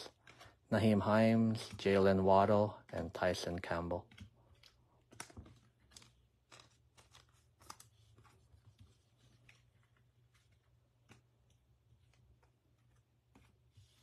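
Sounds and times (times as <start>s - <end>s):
trading cards clicking and rustling: 0.1s - 14.0s.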